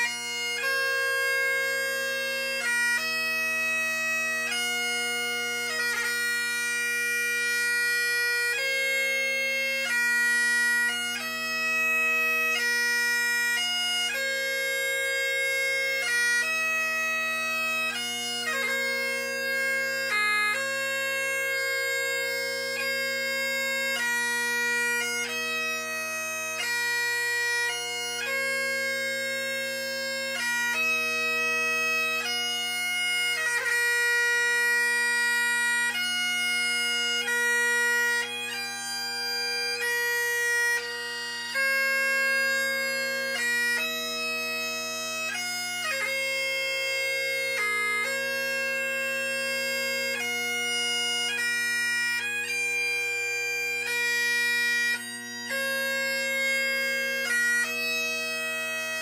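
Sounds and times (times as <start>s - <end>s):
bagpipe playing slow lament: 0.0s - 59.0s.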